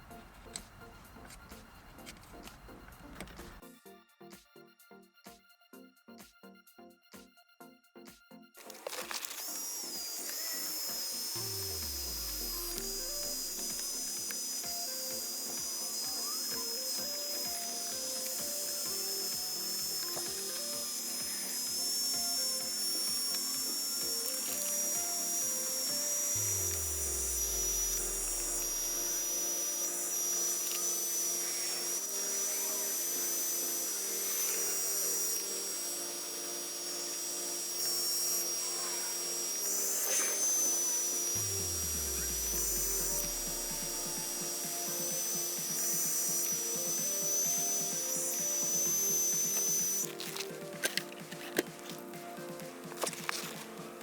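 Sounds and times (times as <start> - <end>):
electronic music with pulsing beat: 0.0 - 54.0.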